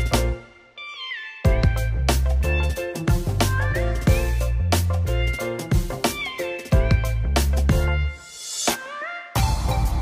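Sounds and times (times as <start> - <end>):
instrumental music with steady beat: 0.0 - 0.9, 1.5 - 10.0.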